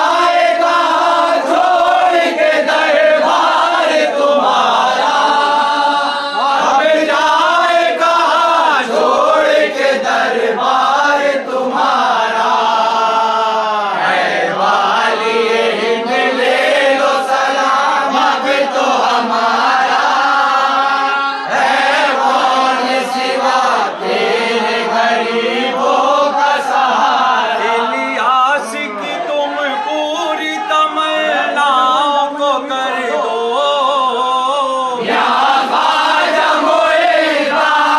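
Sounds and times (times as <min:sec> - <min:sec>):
men singing in chorus: 0:00.0 - 0:37.9.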